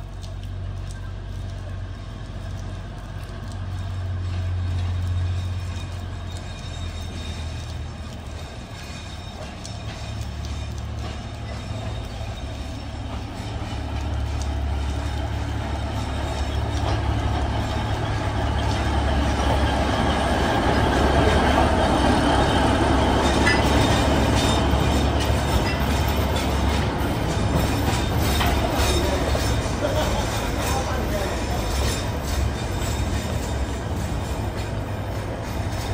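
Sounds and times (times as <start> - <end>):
diesel locomotive engine drone: 0.0 - 35.9
wheels rumbling on rails: 0.0 - 35.9.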